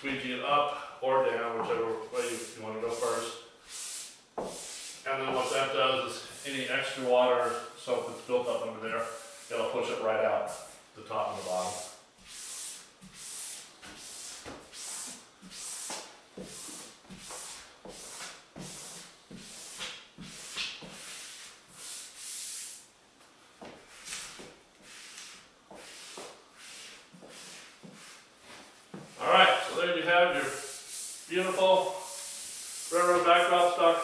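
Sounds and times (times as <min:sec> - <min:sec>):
squeegee rubbing wet surface: 0:01.4 - 0:22.9, 0:23.8 - 0:34.0.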